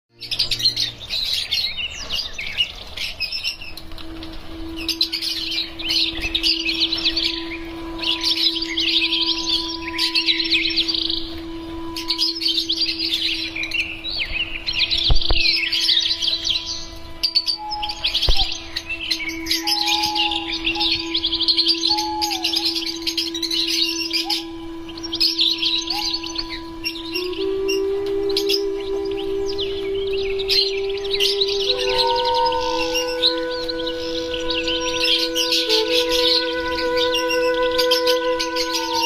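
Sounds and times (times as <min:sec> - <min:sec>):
birds chattering in shrill chirps: 0:00.1 - 0:39.0.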